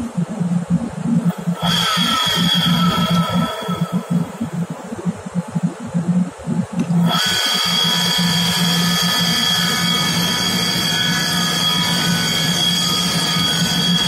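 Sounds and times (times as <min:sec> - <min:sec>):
pump motor humming and whining: 0:00.0 - 0:14.0.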